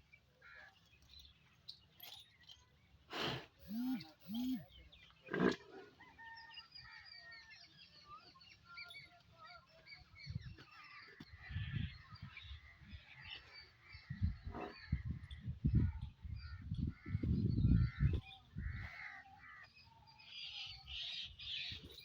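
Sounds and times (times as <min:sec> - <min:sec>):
small birds chirping: 0:00.0 - 0:05.6, 0:07.6 - 0:22.0.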